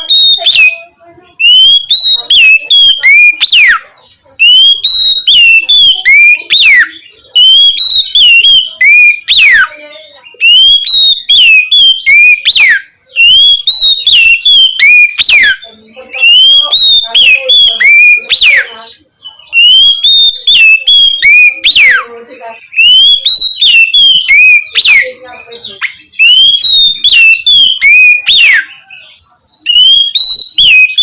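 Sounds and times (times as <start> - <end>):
bird whistling song: 0.0 - 31.0.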